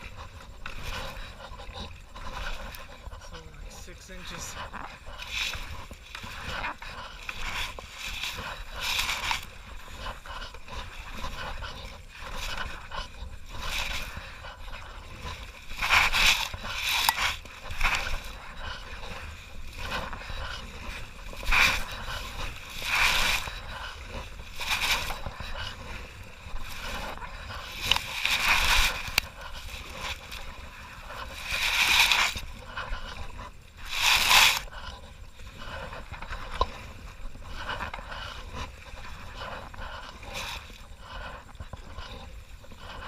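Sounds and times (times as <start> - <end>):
paddle splashing in water: 0.0 - 37.3
steady low rumble: 0.0 - 43.0.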